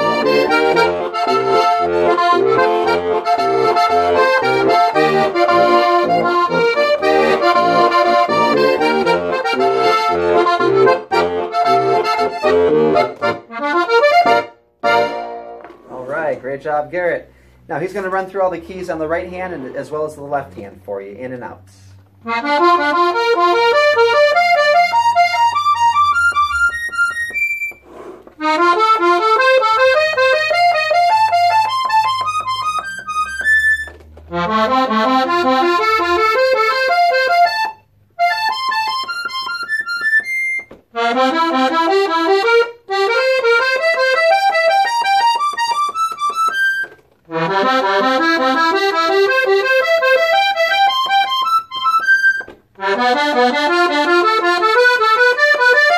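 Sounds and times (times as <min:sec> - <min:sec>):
accordion rising notes: 0:00.0 - 0:55.9.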